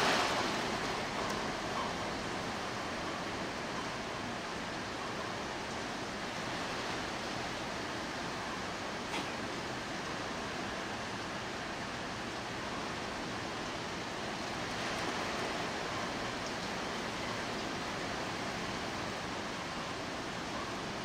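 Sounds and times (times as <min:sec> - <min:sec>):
torrential rain pouring: 0:00.0 - 0:21.0.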